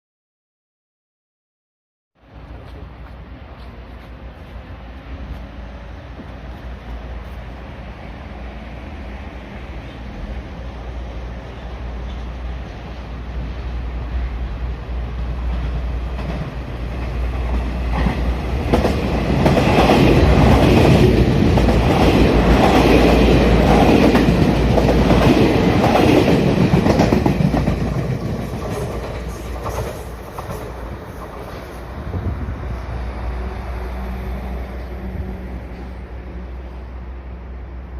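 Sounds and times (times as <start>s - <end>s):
electric train passing: 2.2s - 37.9s.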